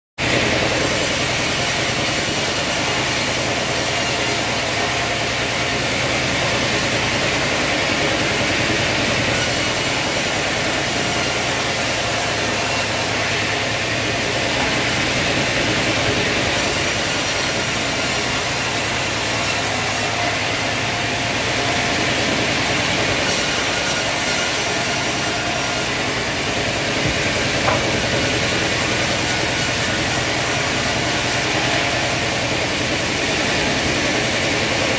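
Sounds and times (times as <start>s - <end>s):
band saw cutting log: 0.2s - 34.9s.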